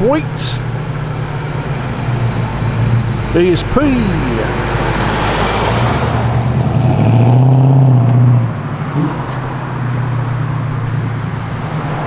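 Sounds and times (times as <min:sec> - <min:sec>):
car engine passing by: 0:00.0 - 0:12.0.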